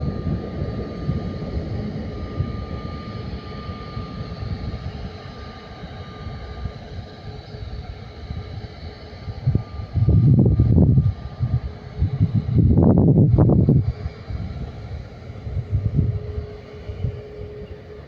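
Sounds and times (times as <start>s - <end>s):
jet engines rumbling and whining: 0.0s - 18.0s.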